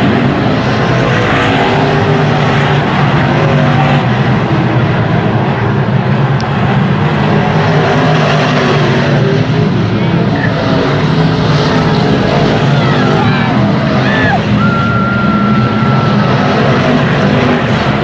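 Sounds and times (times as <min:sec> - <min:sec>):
racing car engine running hard: 0:00.0 - 0:18.0.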